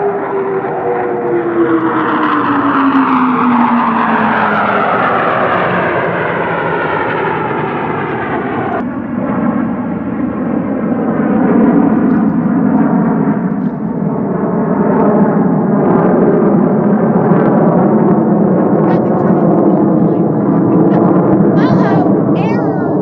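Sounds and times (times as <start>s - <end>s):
aircraft flying past: 0.0s - 23.0s.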